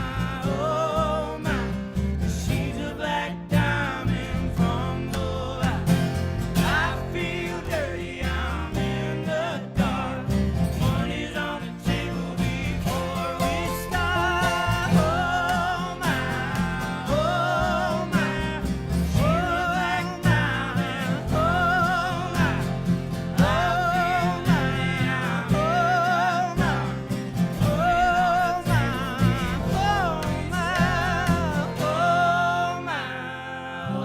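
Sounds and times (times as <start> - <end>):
acoustic guitar accompaniment: 0.0 - 34.0.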